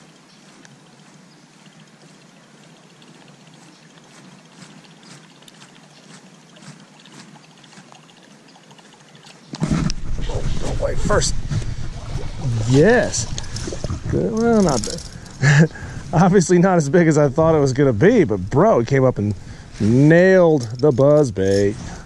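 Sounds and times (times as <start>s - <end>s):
light rain on pond water: 0.0s - 10.0s, 12.4s - 21.5s.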